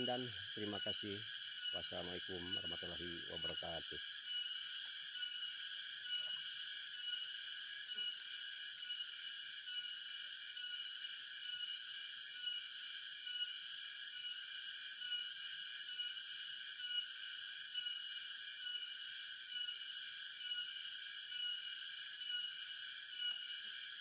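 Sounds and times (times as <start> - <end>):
insects buzzing in pulses: 0.0 - 24.0.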